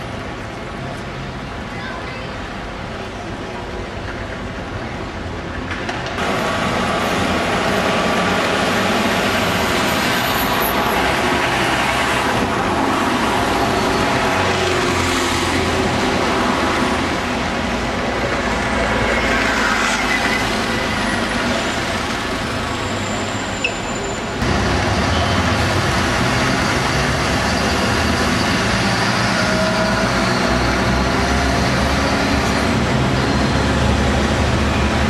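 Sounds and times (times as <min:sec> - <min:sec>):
road noise: 0:00.0 - 0:35.0
diesel bus engines running: 0:06.0 - 0:35.0.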